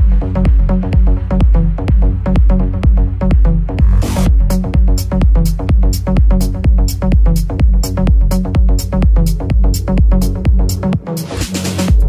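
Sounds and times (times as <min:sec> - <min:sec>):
kick drum: 0:00.0 - 0:11.2
electro house music: 0:00.0 - 0:12.0.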